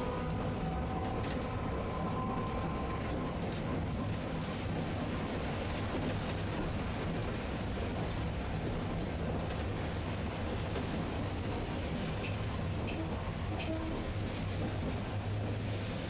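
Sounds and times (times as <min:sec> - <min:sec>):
streetcar rumbling by: 0:00.0 - 0:16.0.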